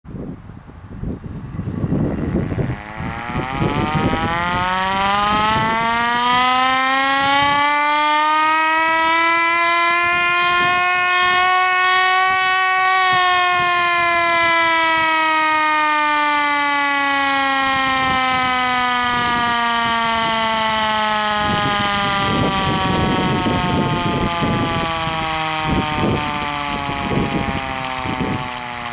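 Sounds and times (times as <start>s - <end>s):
air raid siren wailing: 1.6s - 28.9s.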